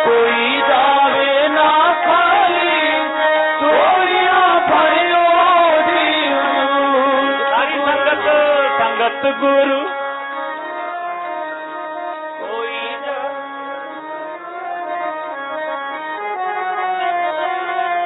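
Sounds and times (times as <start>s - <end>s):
devotional music melody: 0.0s - 18.0s
person singing devotional refrain: 0.0s - 18.0s.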